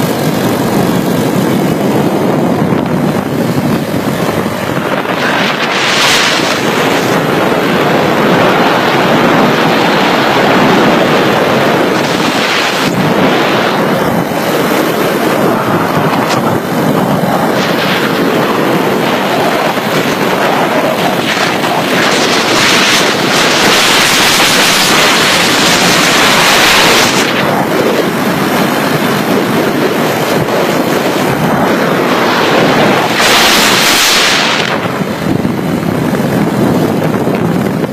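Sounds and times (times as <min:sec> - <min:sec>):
moped engine running: 0:00.0 - 0:37.9
wind rushing over microphone: 0:00.0 - 0:37.9.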